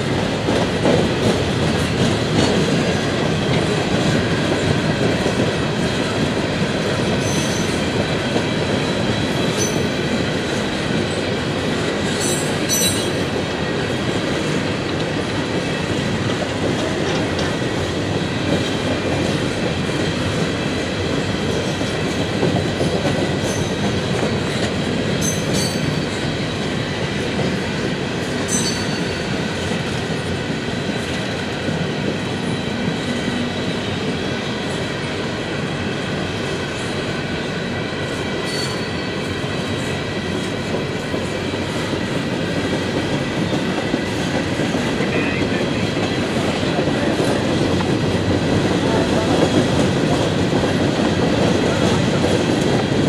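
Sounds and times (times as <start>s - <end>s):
clickety-clack over rail joints: 0.0s - 53.0s
train wheels rumbling on rail: 0.0s - 53.0s.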